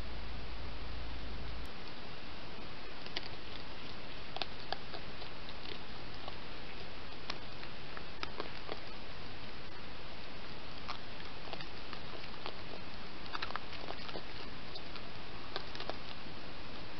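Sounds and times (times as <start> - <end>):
microphone hiss: 0.0 - 16.9.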